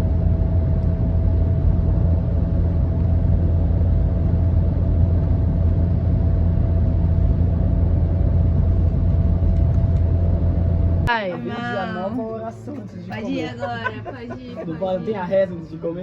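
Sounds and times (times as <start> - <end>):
faint steady whine: 0.0 - 16.0
vehicle low rumble: 0.0 - 16.0.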